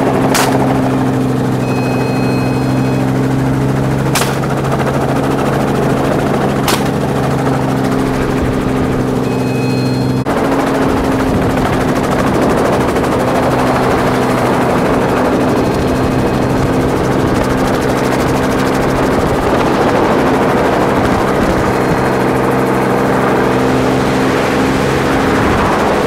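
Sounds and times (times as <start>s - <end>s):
helicopter engine and rotor noise: 0.0s - 26.0s.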